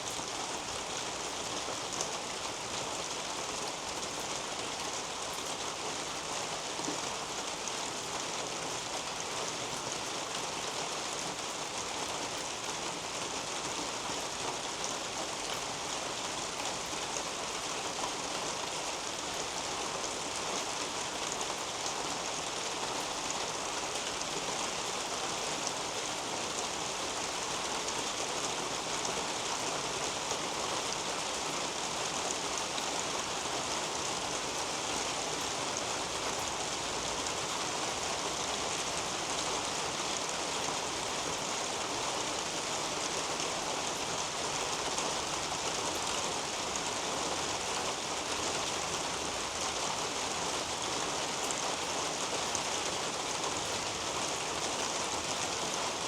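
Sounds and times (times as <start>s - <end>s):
rain falling on leaves and soil: 0.0s - 56.0s.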